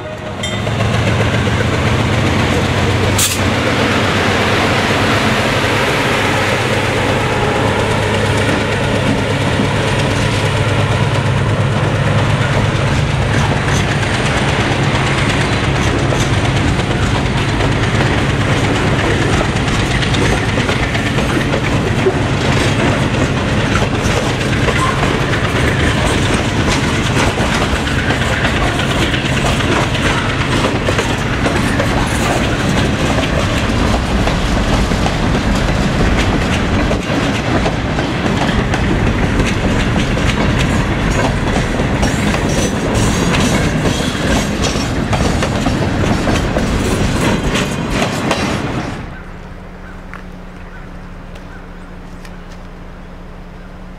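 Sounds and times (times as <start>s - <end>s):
train wheels clacking on rails: 0.0s - 49.4s
locomotive engine hum: 0.0s - 53.9s.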